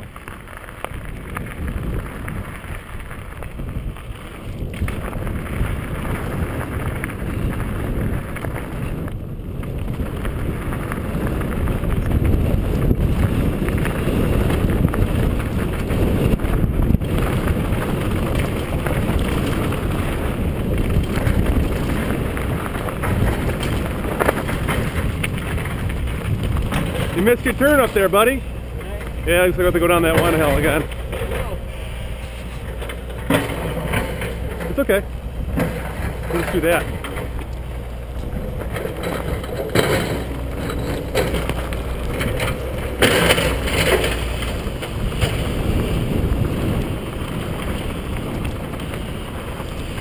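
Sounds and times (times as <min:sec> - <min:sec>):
bike tyres crunching over gravel: 0:00.0 - 0:50.0
wind on microphone: 0:00.0 - 0:50.0.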